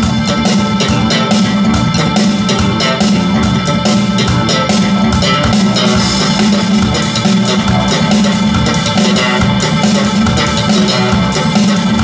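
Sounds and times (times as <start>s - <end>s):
music with percussion over loudspeakers: 0.0s - 12.0s.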